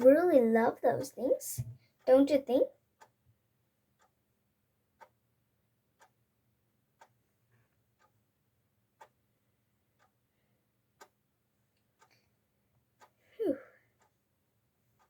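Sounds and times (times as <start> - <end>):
clock ticking faintly: 0.0 - 15.0.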